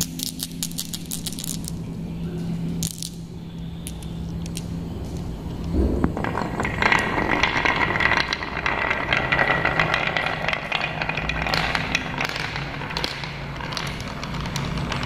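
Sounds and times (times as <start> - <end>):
marbles clicking together: 0.0 - 1.8, 2.8 - 15.0
marbles rolling in wooden channel: 0.0 - 1.8, 2.8 - 15.0.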